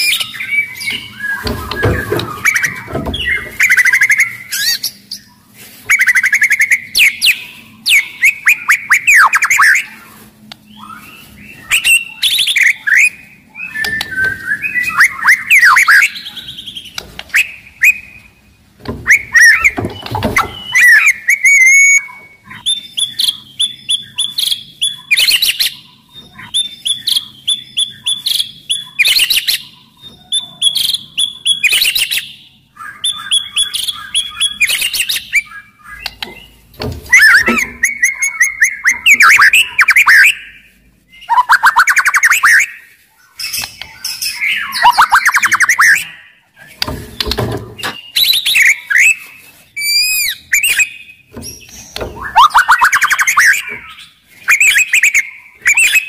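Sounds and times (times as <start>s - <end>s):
bird singing whistled phrases: 5.9s - 10.0s, 10.7s - 16.5s, 17.3s - 18.2s, 19.0s - 36.2s, 37.1s - 46.4s, 47.8s - 56.0s.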